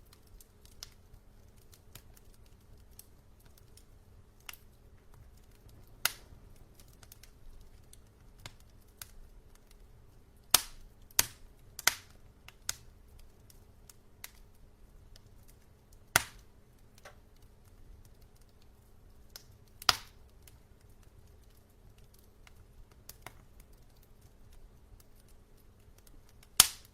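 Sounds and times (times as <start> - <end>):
logs crackling in fireplace: 0.0 - 26.9
sharp fire pops: 0.1 - 9.8, 10.4 - 14.5, 15.1 - 18.7, 19.3 - 26.9.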